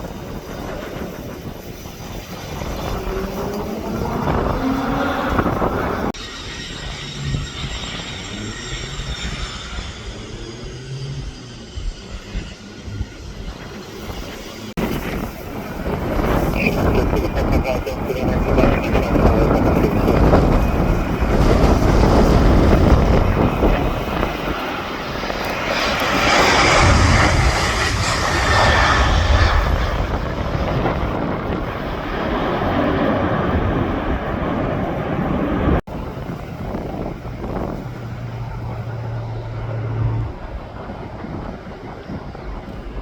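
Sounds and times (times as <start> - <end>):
airliner engine rush with whine: 0.0 - 43.0
wind rumbling on microphone: 0.0 - 43.0.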